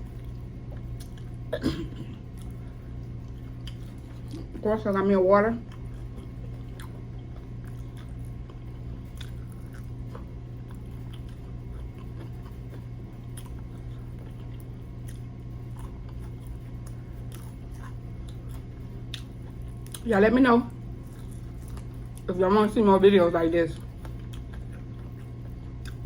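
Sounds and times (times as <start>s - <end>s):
person chewing crispy chicken: 0.0s - 1.5s, 2.1s - 4.6s, 5.7s - 20.1s, 20.9s - 22.3s, 23.8s - 26.0s
low hum: 0.0s - 26.0s.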